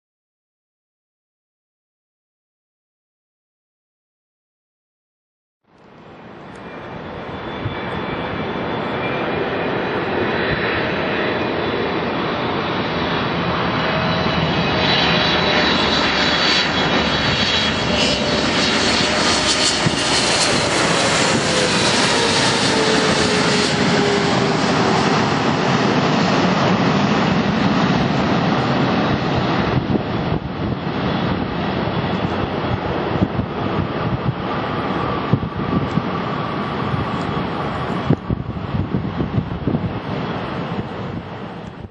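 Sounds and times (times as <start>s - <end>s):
jet airliner passing with whine: 5.7s - 41.9s.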